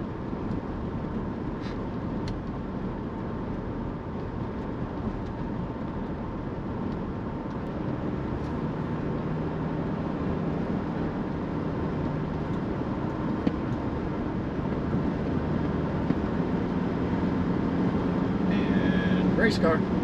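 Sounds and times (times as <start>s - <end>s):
car road noise at speed: 0.0s - 20.0s.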